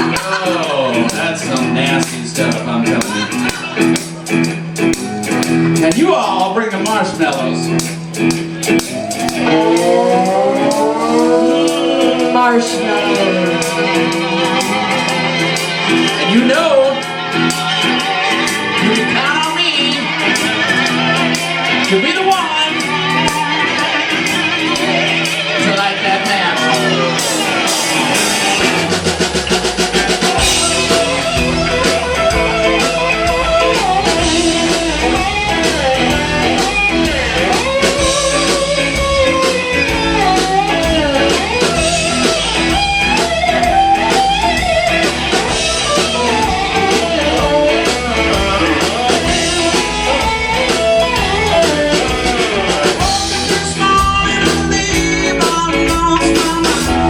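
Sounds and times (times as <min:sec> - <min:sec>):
bass guitar: 0:00.0 - 0:57.0
drum kit: 0:00.0 - 0:57.0
electric guitar lead: 0:00.0 - 0:57.0.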